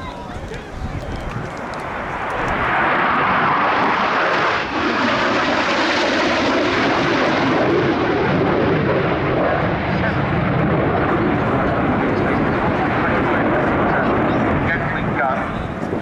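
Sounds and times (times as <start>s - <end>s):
military jet engine roar: 0.0s - 16.0s.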